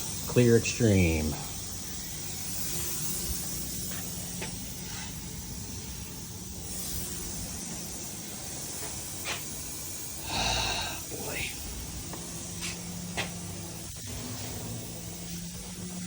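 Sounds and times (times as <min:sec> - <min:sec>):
spray hiss: 0:00.0 - 0:16.0.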